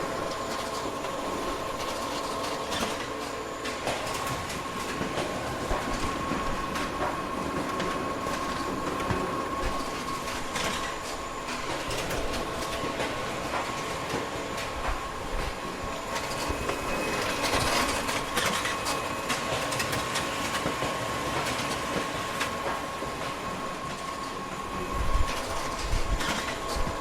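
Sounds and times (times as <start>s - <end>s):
photocopier whirring: 0.0s - 27.0s.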